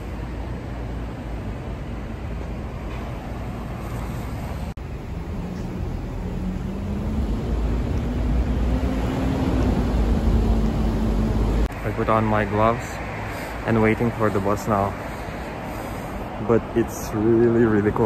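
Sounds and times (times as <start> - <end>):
bus engine hum: 0.0 - 18.0
road traffic rumble: 0.0 - 18.0.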